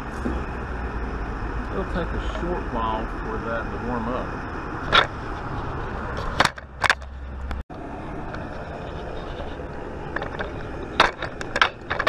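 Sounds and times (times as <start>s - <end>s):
steady background rumble: 0.0s - 12.0s.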